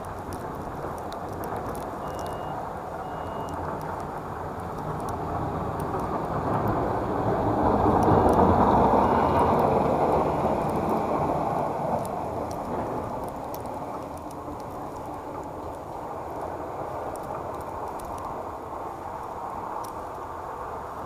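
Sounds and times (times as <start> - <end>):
steady rumbling rushing noise: 0.0 - 21.0.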